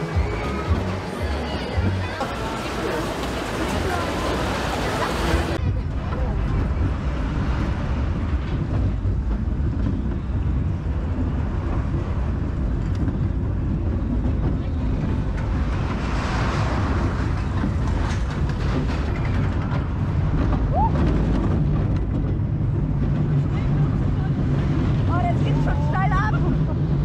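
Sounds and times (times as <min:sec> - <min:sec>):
roller coaster rumbling on track: 0:00.0 - 0:27.0.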